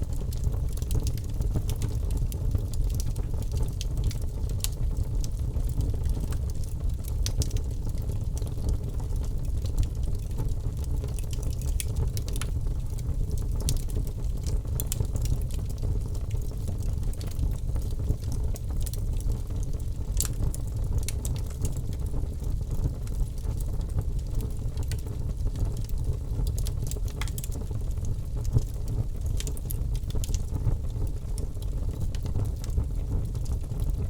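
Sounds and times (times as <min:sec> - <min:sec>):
campfire low rumble: 0:00.0 - 0:34.0
fire crackles and pops: 0:00.0 - 0:34.0.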